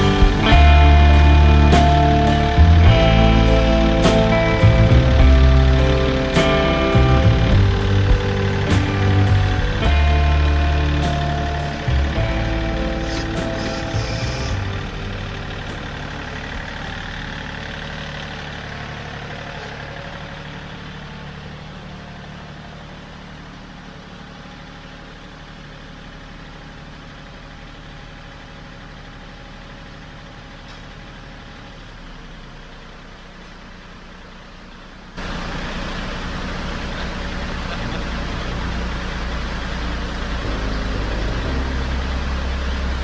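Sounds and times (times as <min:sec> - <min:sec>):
tractor diesel engine idling: 0:00.0 - 0:43.0.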